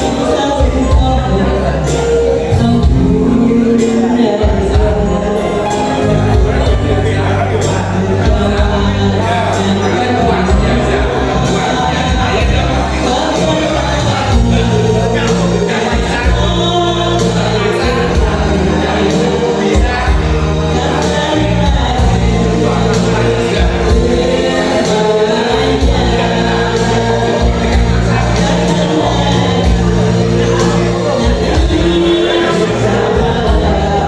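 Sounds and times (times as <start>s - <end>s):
person singing: 0.0s - 34.0s
sustained bass line: 0.0s - 34.0s.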